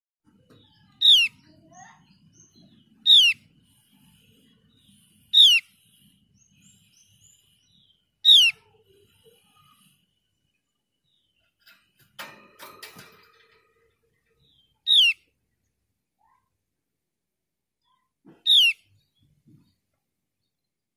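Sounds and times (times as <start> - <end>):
faint soft bird chirps: 0.3 - 12.0, 12.9 - 16.8, 17.8 - 20.9.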